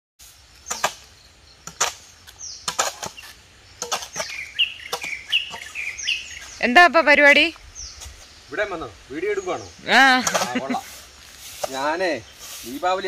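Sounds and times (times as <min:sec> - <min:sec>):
bird chirps: 0:00.2 - 0:11.0.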